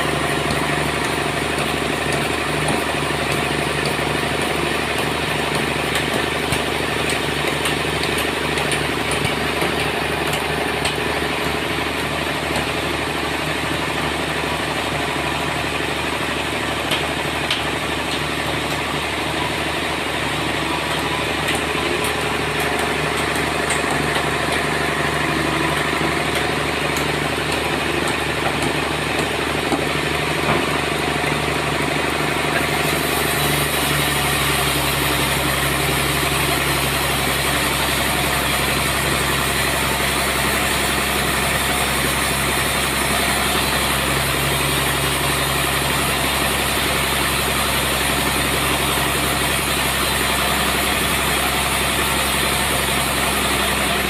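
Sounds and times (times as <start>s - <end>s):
sawmill motor drone: 0.0s - 54.0s.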